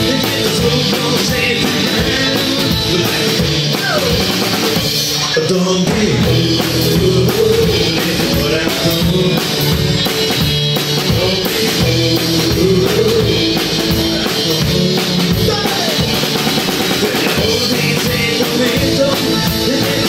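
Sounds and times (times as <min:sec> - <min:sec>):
rockabilly band playing live: 0:00.0 - 0:20.0.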